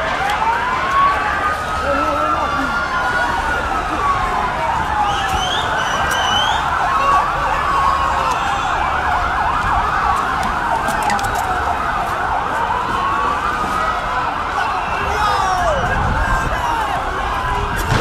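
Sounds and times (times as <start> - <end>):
sirens wailing and yelping: 0.0 - 18.0.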